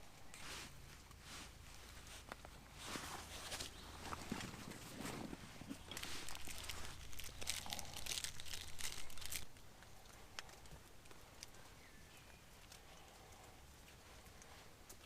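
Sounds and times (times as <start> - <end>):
rustling and crinkling handling: 0.0 - 15.0.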